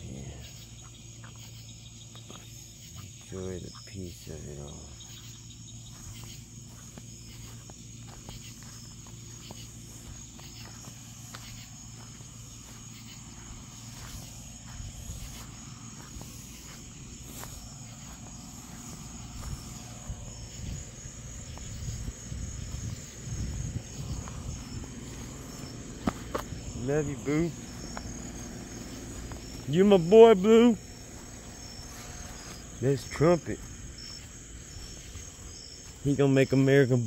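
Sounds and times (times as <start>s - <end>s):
crickets chirping: 0.0s - 37.0s
handling thumps and rumbles: 5.6s - 36.0s.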